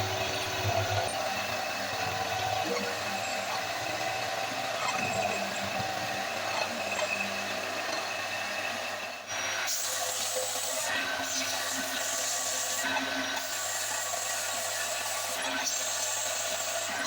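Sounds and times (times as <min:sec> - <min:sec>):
power tool grinding: 0:00.0 - 0:17.0.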